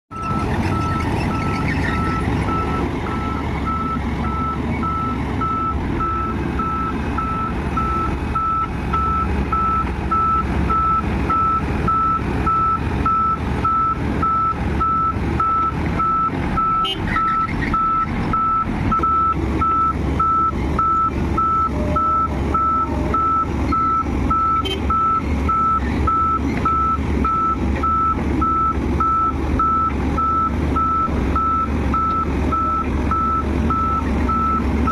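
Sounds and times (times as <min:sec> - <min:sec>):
diesel engine rumbling: 0:00.1 - 0:34.9
reversing alarm beeping: 0:00.1 - 0:34.9.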